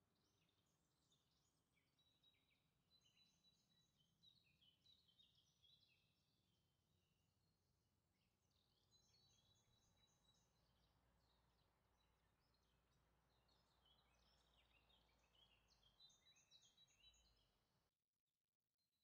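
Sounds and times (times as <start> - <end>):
faint birdsong chirps: 0.0 - 7.1, 8.0 - 17.9.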